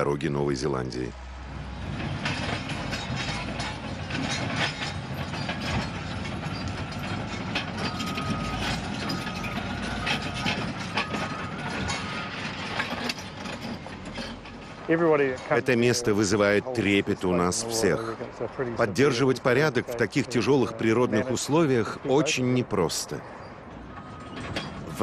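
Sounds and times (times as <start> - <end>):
excavator clanking: 0.0 - 22.4, 23.6 - 25.0.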